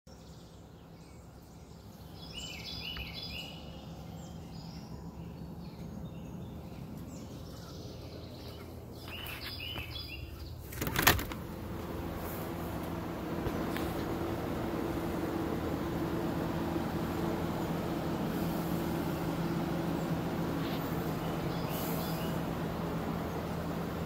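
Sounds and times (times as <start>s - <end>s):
songbirds chirping: 0.1s - 24.0s
steady low hum: 0.1s - 24.0s.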